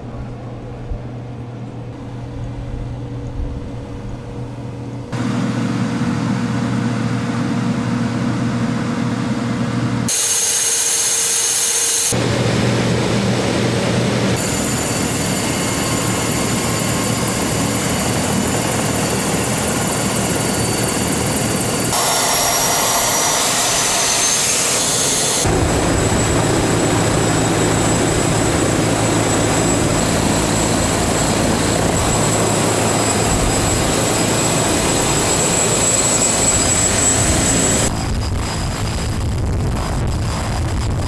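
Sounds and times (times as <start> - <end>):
helicopter turbine whine: 0.0 - 41.0.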